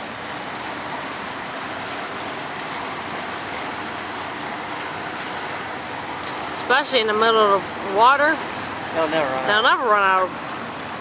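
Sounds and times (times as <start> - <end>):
rushing hissing water: 0.0 - 11.0.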